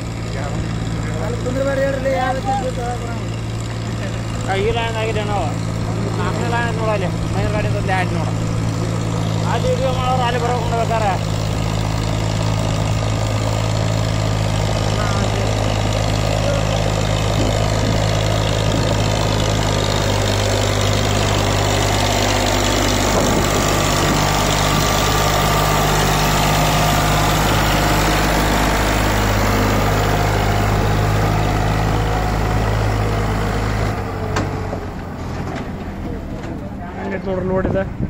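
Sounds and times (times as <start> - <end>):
tractor diesel engine humming: 0.0 - 38.0.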